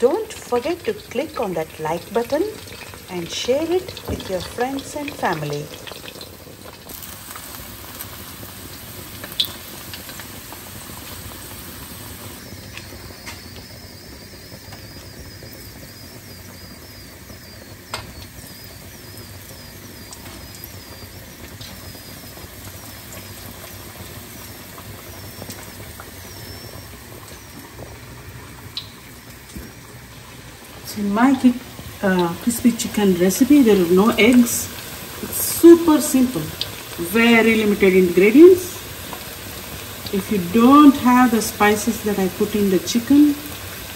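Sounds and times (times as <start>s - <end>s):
food deep-frying in hot oil: 0.0s - 43.9s.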